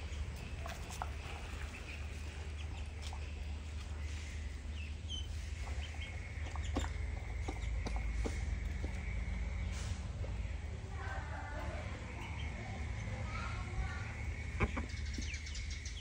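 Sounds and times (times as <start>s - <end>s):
chickens clucking and chirping: 0.0s - 16.0s
steady low hum: 0.0s - 16.0s.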